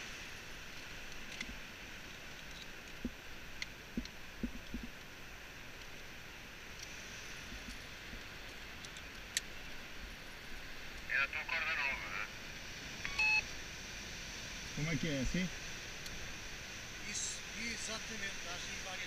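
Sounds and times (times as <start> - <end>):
rushing outdoor noise: 0.0 - 19.0.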